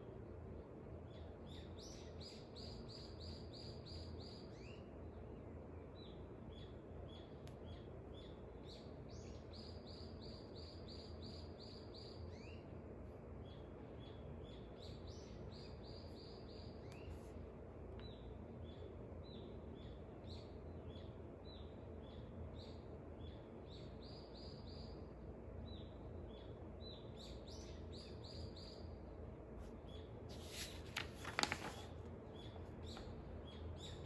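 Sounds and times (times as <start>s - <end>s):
low background noise: 0.0s - 34.0s
songbird singing: 0.6s - 12.8s, 13.4s - 17.4s, 18.0s - 29.1s, 32.2s - 34.0s.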